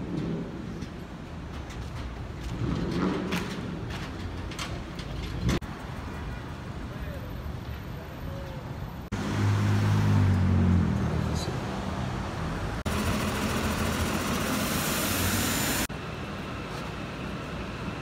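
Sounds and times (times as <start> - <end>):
rushing traffic noise: 0.0 - 18.0
street hum: 0.0 - 18.0.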